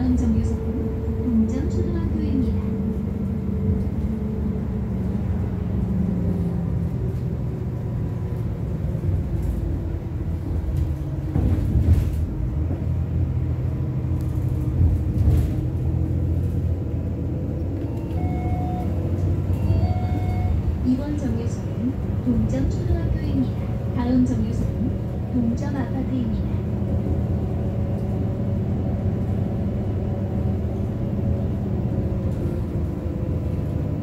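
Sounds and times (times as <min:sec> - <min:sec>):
bus engine drone: 0:00.0 - 0:34.0
bus jolts: 0:00.0 - 0:34.0
tyres rumbling on road: 0:00.0 - 0:34.0.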